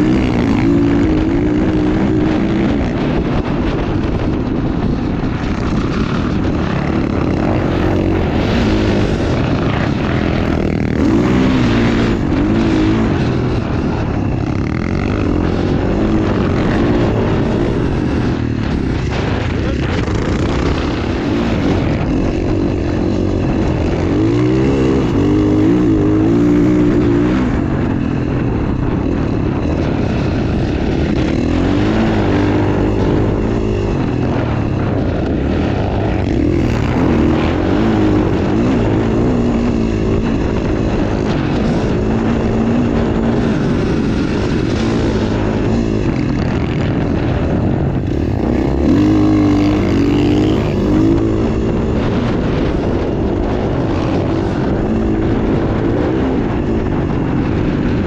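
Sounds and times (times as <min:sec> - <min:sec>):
dirt bike engine revving: 0:00.0 - 0:58.0
steady rush of noise: 0:00.0 - 0:58.0.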